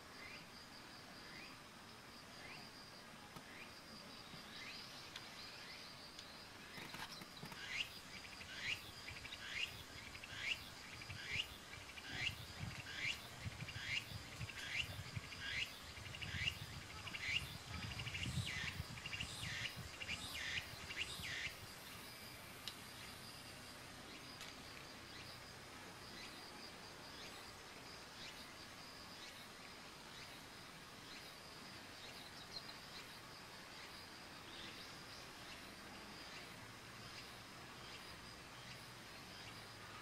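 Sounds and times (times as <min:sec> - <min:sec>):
faint high insect hum: 0:00.0 - 0:40.0.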